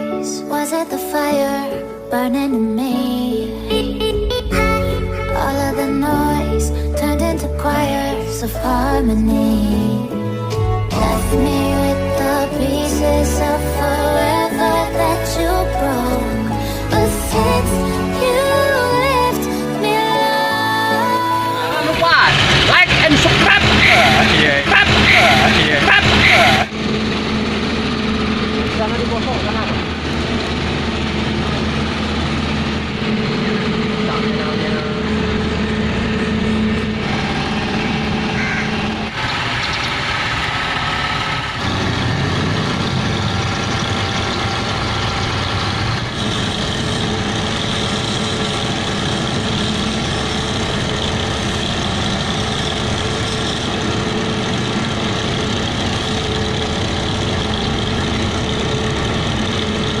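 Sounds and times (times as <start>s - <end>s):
heavy diesel engine running: 1.3s - 60.0s.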